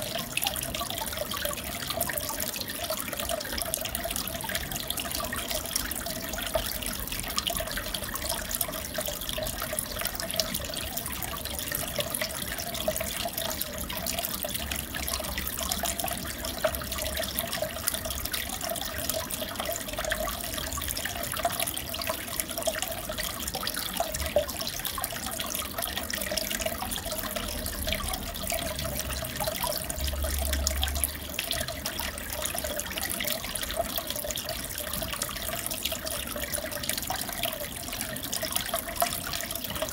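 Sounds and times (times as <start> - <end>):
aquarium water trickling and bubbling: 0.0 - 39.9
small crackles and drips: 0.0 - 39.9.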